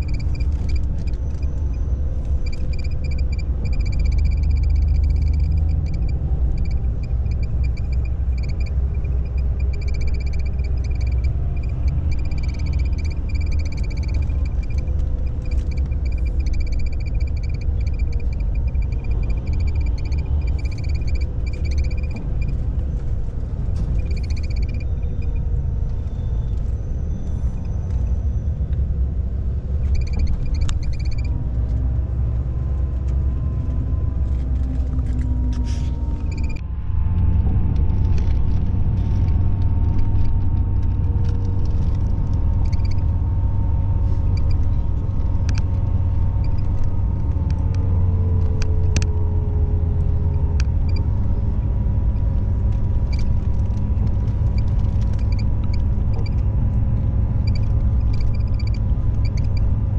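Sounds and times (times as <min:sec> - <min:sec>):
coach engine and road rumble: 0:00.0 - 0:59.9
faint whining tones: 0:00.0 - 0:59.9.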